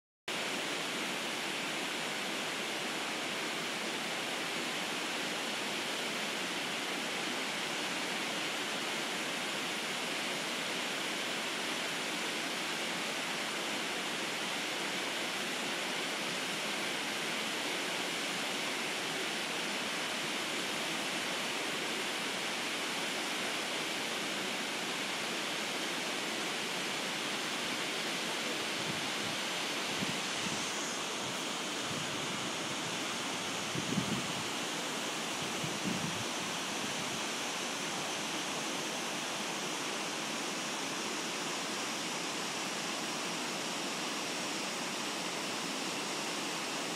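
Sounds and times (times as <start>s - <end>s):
waterfall rushing into river: 0.3s - 46.9s.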